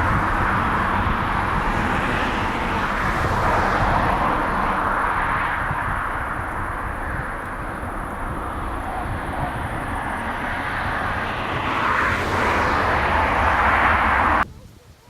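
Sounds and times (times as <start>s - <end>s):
jet engines rushing and rumbling: 0.0s - 14.5s.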